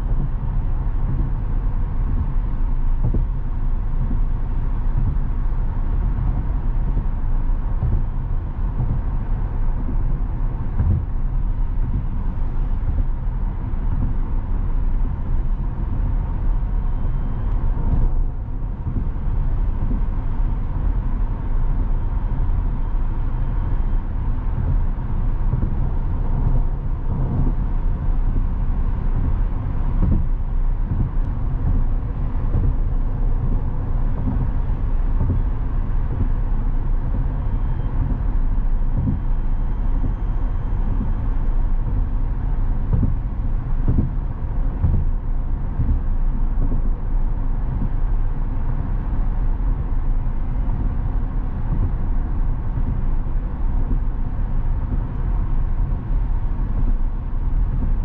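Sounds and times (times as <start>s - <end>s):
faint steady tone: 0.0s - 58.0s
road and tyre rumble: 0.0s - 58.0s.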